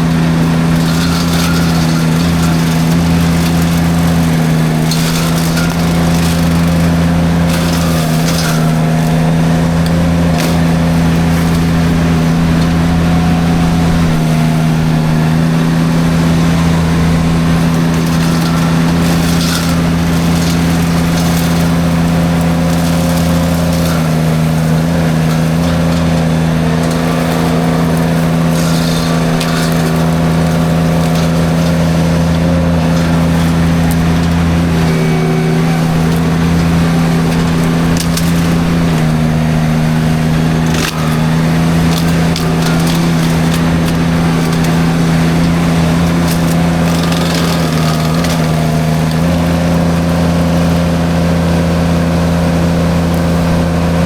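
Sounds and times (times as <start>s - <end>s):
loud engine running: 0.0s - 54.0s
wood cracking and crunching: 0.0s - 54.0s.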